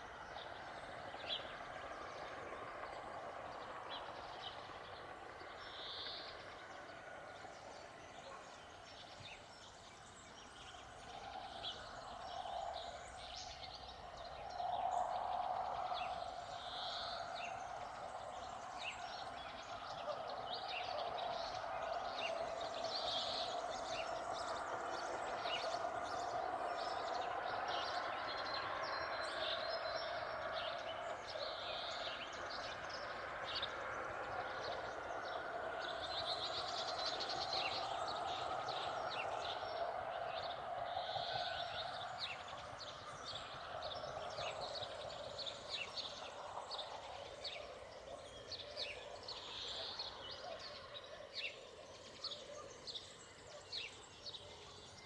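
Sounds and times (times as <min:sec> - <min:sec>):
low outdoor murmur: 0:00.0 - 0:55.0.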